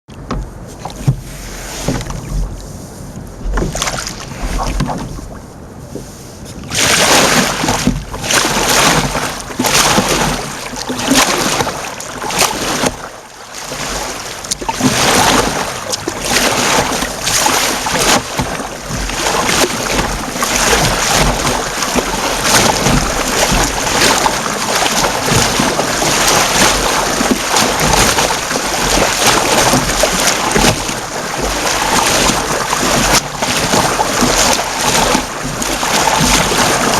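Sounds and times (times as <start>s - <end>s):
paddle splashing in water: 0.1s - 36.9s
wind on microphone: 0.1s - 36.9s.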